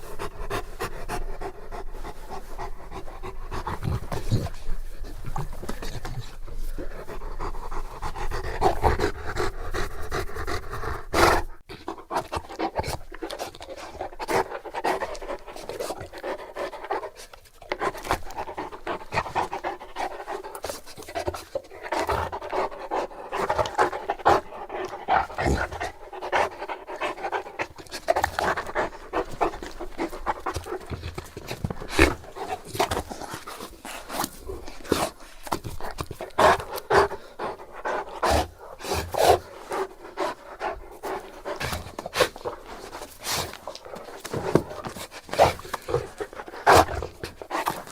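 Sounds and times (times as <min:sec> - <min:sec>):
dog panting: 0:00.0 - 0:47.9.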